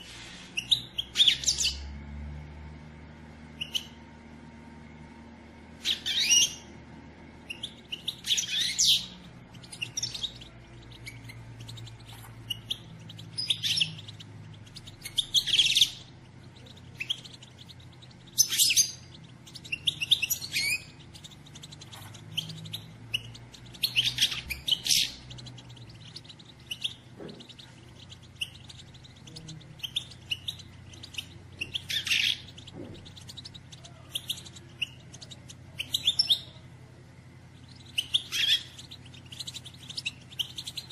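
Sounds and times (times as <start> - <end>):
goldfinch twittering calls: 0.6 - 1.8, 3.6 - 4.0, 5.8 - 6.7, 7.5 - 36.6, 37.6 - 40.9.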